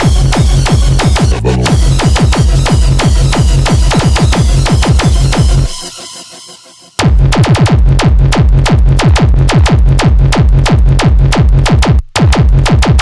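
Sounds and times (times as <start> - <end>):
heavy bass line: 0.0 - 11.8
distorted kick drum: 0.0 - 13.0.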